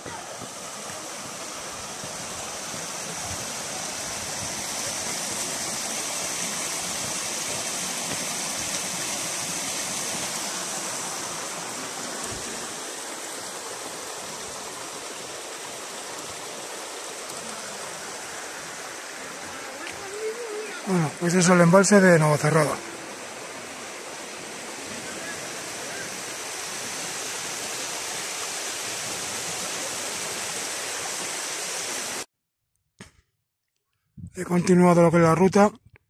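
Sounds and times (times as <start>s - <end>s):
water rushing over spillway: 0.0s - 32.3s.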